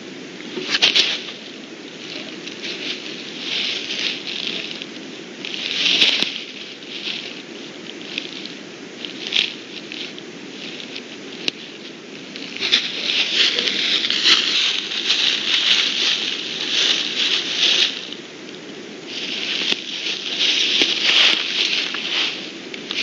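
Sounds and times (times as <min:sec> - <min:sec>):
bear rustling dry leaves: 0:00.0 - 0:23.0.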